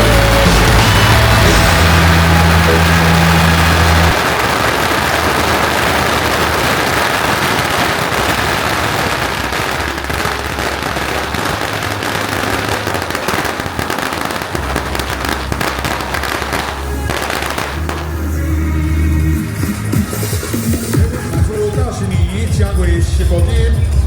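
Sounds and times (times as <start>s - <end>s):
firecrackers crackling: 0.0s - 24.0s.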